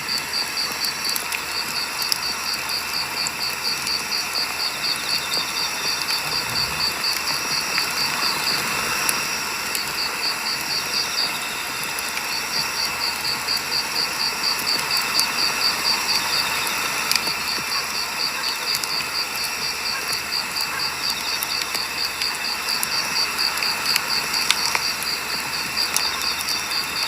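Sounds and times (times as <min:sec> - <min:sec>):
campfire crackling and popping: 0:00.0 - 0:27.0
high insect chirp: 0:00.1 - 0:27.0.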